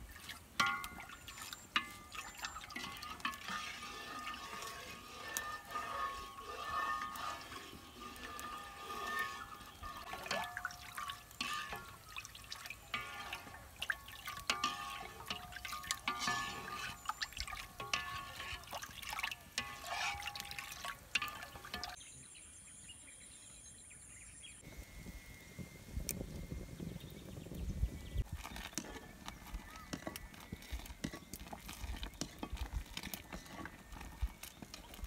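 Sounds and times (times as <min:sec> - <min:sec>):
metal ladle scraping a pan: 0:00.0 - 0:22.0, 0:28.2 - 0:35.0
milk bubbling in a wok: 0:00.0 - 0:22.0, 0:24.6 - 0:35.0.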